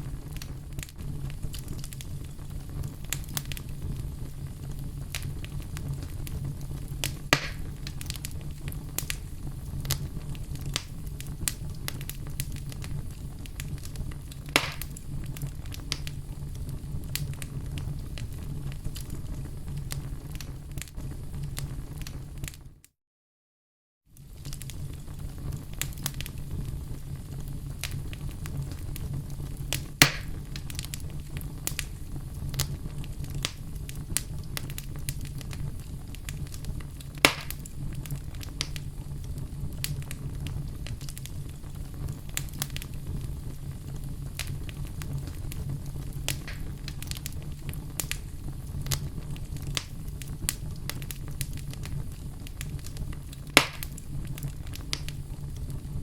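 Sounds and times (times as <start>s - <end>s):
loud fire pops: 0.0s - 22.6s, 24.2s - 56.0s
low fire rumble: 0.0s - 22.8s, 24.1s - 56.0s
fire crackling in a fireplace: 0.0s - 22.9s, 24.0s - 56.0s.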